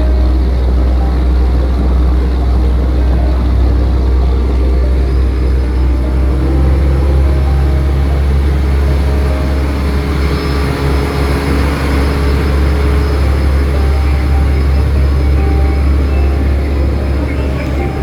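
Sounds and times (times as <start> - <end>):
ferry engines droning: 0.0 - 18.0
rushing noise: 0.0 - 18.0.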